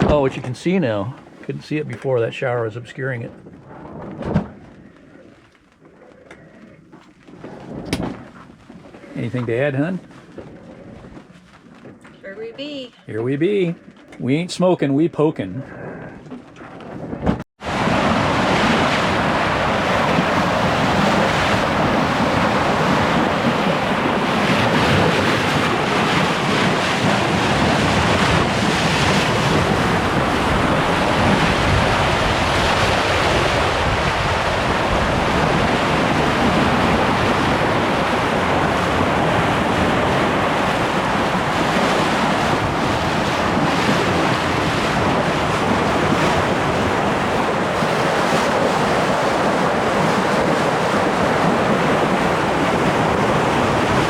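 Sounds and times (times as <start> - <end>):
waves washing along hull: 0.0 - 54.0
wind buffeting microphone: 0.0 - 54.0.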